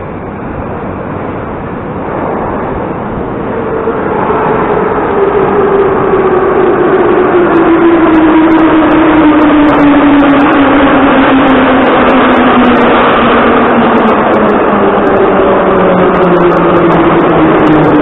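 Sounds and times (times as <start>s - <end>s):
metro train pulling in: 0.0s - 18.0s
train whine falling in pitch: 0.1s - 18.0s.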